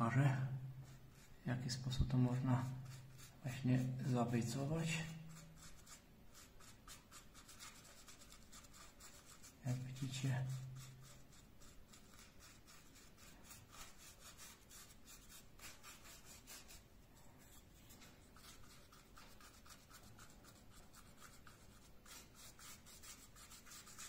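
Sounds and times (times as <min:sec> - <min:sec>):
paintbrush bristles rubbing on foam: 0:00.4 - 0:24.0.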